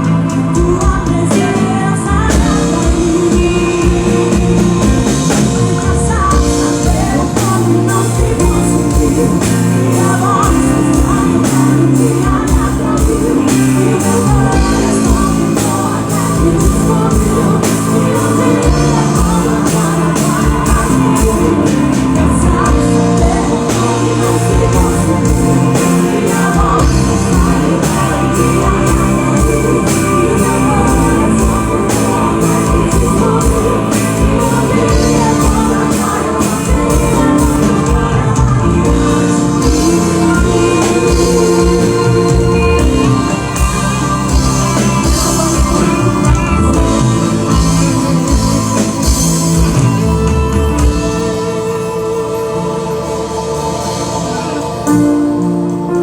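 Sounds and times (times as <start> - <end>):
band music: 0.0 - 56.0
person singing: 0.0 - 56.0
steady drum beat: 0.0 - 56.0.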